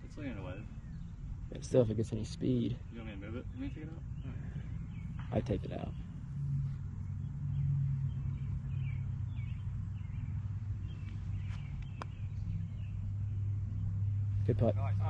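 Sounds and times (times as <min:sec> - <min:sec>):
steady low hum: 0:00.0 - 0:15.0
faint bird chirps: 0:00.3 - 0:14.9.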